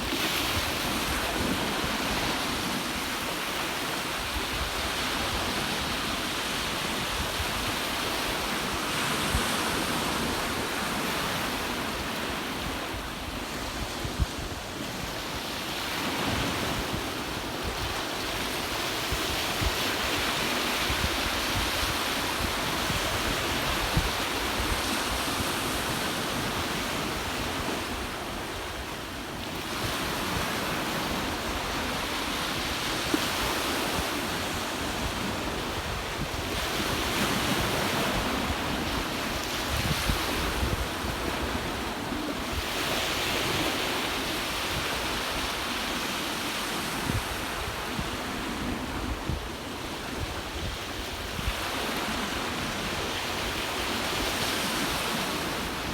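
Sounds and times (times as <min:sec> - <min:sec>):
wind rumbling on microphone: 0:00.0 - 0:28.9, 0:29.5 - 0:55.9
sea waves roaring onto beach: 0:00.0 - 0:55.9.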